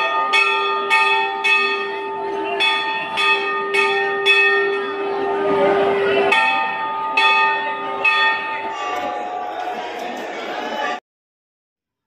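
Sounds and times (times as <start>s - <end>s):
temple bells ringing: 0.0s - 11.0s.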